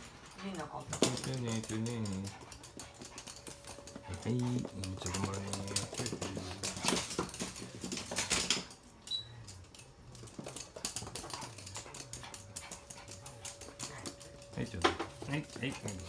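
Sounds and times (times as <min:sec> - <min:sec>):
dog claws clicking on hard floor: 0:00.2 - 0:08.9, 0:09.5 - 0:16.0.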